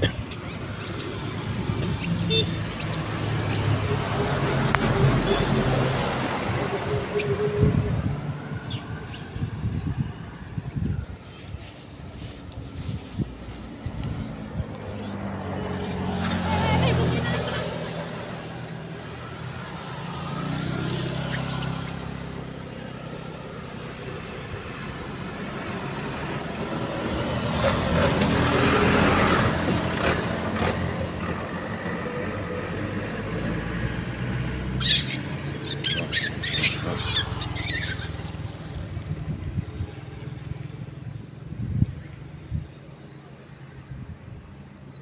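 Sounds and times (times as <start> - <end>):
vehicle engine hum passing: 0.0 - 42.8.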